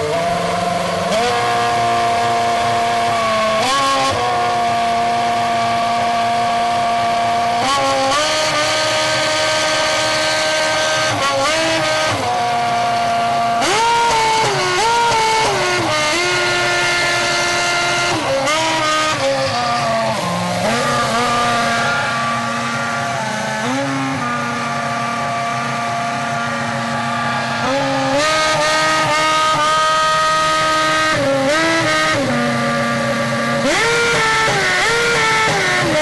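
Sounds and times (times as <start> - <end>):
racing car engine revving: 0.0 - 36.0.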